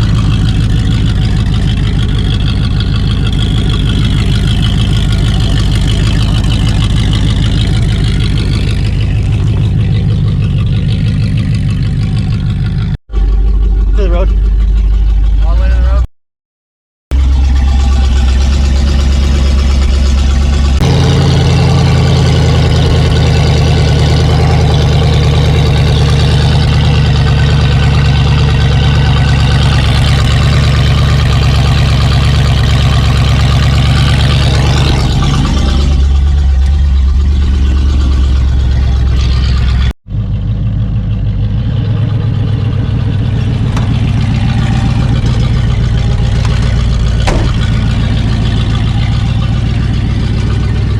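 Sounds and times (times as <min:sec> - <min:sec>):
truck engine running: 0:00.0 - 0:16.1, 0:17.1 - 0:50.9.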